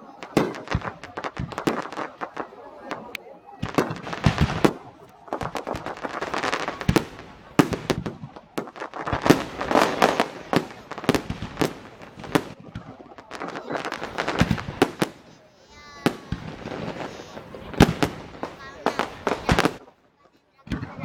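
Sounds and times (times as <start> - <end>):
firework crackling: 0.0 - 21.0
firework shells bursting: 0.1 - 19.9.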